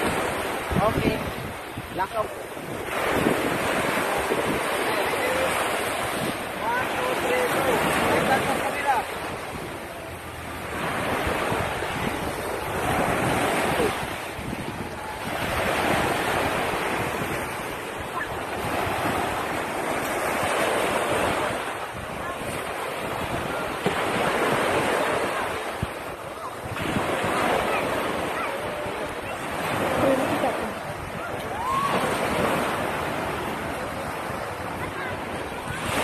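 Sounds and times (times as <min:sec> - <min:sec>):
small waves breaking on shore: 0:00.0 - 0:36.0
wind buffeting microphone: 0:00.0 - 0:36.0.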